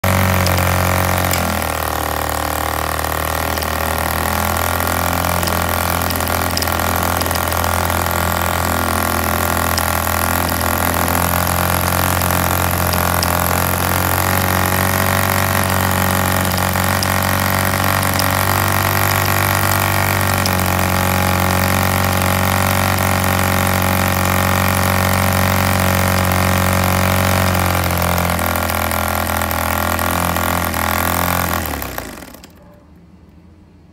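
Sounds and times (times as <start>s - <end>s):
model engine running: 0.0s - 32.6s.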